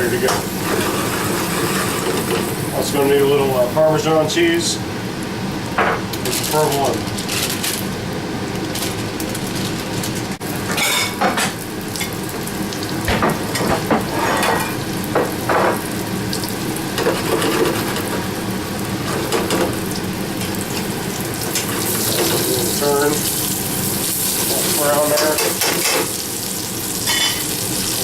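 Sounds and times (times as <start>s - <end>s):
chicken sizzling in a pan: 0.0s - 4.7s, 9.0s - 28.0s.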